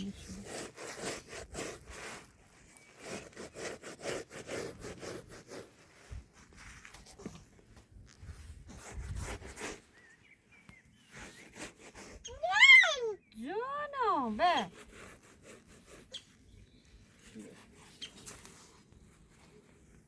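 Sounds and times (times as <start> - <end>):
wood being scraped: 0.0 - 10.1, 10.9 - 12.6, 13.6 - 20.0.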